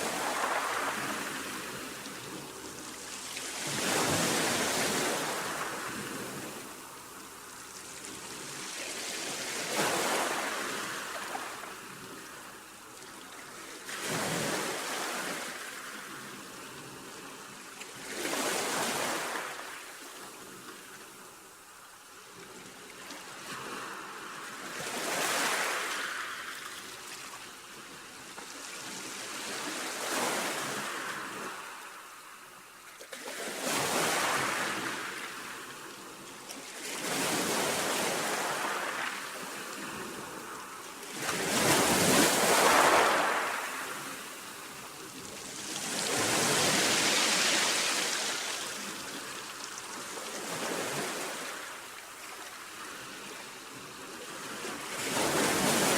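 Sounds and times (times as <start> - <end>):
sea waves breaking on shore: 0.0 - 17.0, 17.9 - 20.7, 23.2 - 32.3, 33.0 - 55.9.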